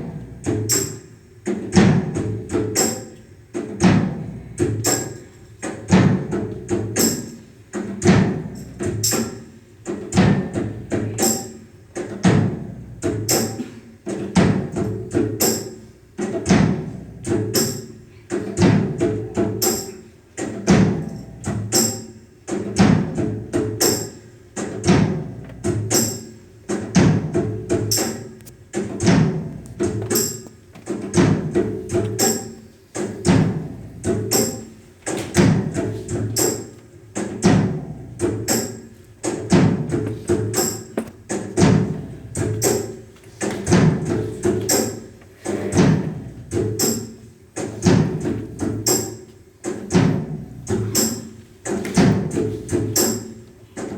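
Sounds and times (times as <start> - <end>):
background music with percussive beat: 0.0 - 53.9.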